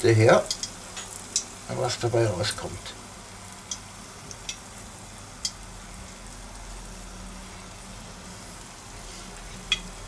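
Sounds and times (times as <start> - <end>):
corn dog sizzling in hot oil: 0.0 - 10.0.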